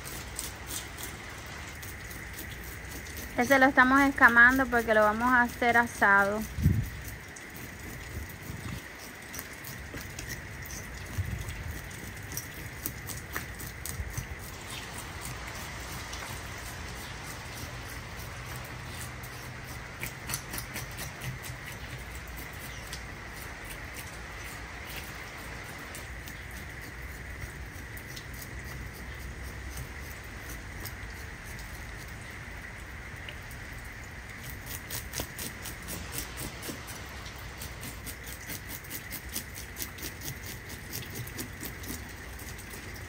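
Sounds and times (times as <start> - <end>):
fork scraping fish scales: 0.0 - 32.1, 34.4 - 43.0.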